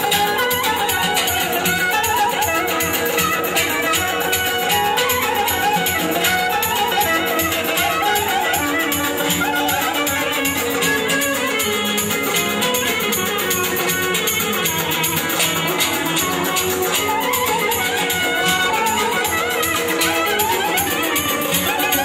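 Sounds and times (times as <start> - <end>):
clarinet melody: 0.0 - 22.0
electric guitar: 0.0 - 22.0
frame drum: 0.0 - 22.0.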